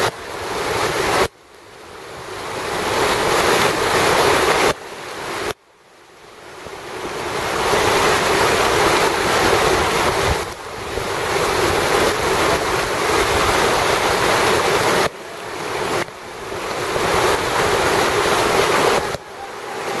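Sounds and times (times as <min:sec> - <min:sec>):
whitewater rapids rushing: 0:00.0 - 0:05.6, 0:06.4 - 0:20.0.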